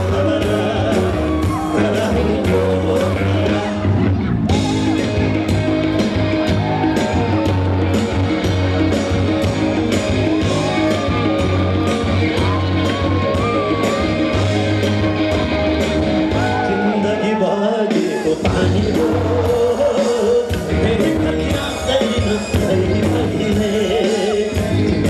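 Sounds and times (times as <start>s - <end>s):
bass guitar: 0.0s - 25.0s
drums: 0.0s - 25.0s
electric guitar: 0.0s - 25.0s.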